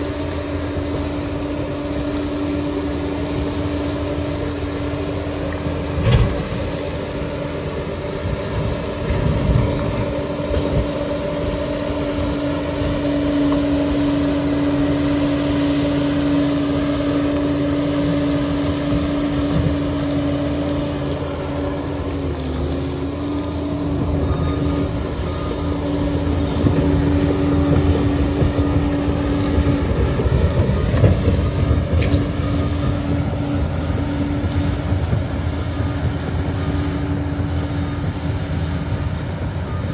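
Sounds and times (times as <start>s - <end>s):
dozer engine droning: 0.0s - 39.9s.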